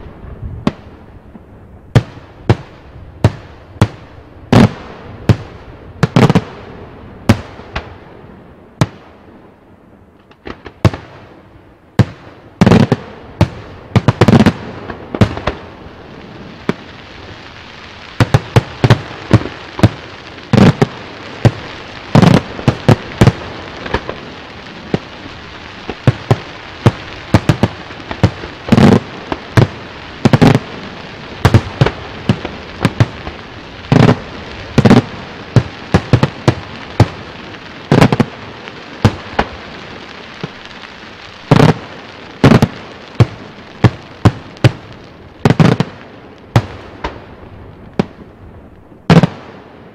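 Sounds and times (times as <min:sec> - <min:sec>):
fireworks banging: 0:00.0 - 0:08.0, 0:12.0 - 0:48.4, 0:49.0 - 0:49.9.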